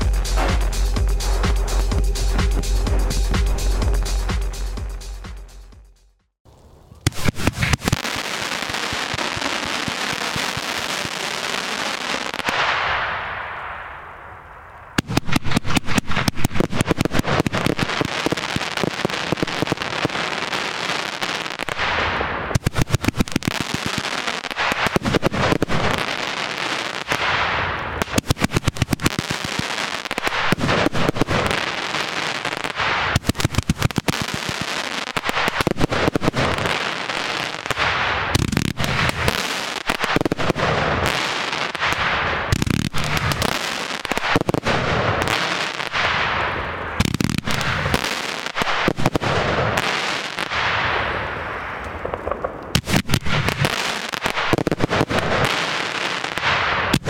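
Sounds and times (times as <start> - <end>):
firework crackling: 0.0 - 5.2, 6.5 - 57.0
firework shots: 7.0 - 57.0.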